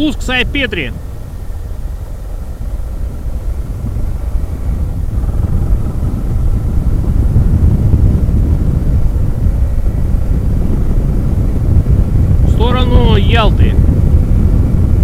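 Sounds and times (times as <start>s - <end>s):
motorcycle engine: 0.0s - 15.0s
wind on microphone: 0.0s - 15.0s.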